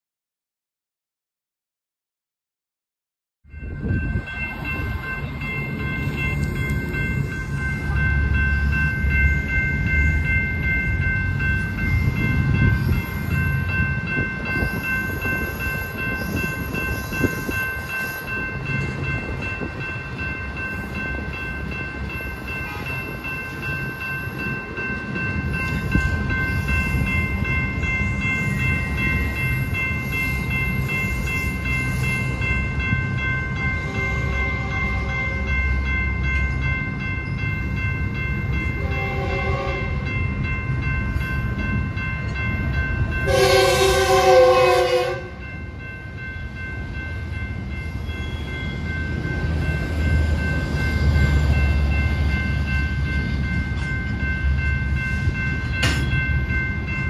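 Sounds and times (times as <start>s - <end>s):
high-pitched ringing tones: 3.5s - 57.0s
train wheels rumbling on rail: 3.6s - 57.0s.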